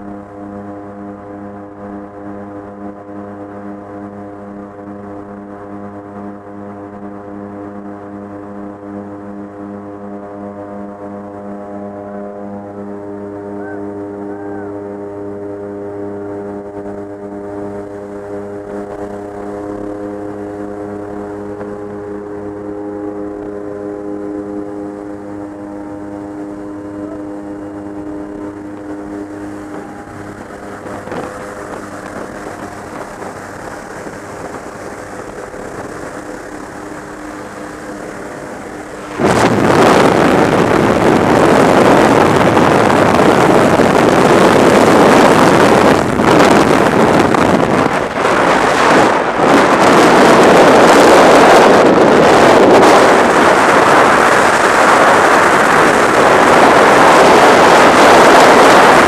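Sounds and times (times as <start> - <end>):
plane engine drone: 0.0 - 59.0
rushing freefall wind: 11.3 - 59.0.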